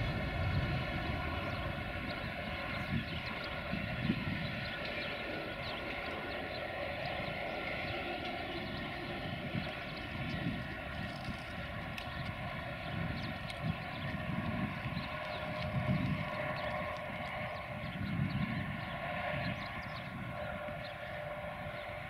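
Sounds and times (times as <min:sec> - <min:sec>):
diesel locomotive drone: 0:00.0 - 0:22.0
rumble of train wheels: 0:00.0 - 0:22.0.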